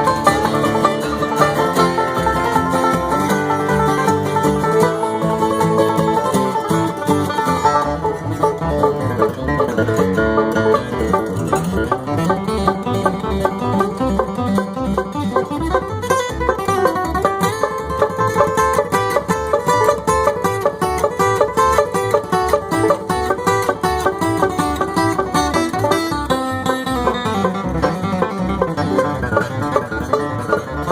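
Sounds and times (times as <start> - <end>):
bluegrass string band: 0.0 - 30.9
fast banjo picking: 0.0 - 30.9.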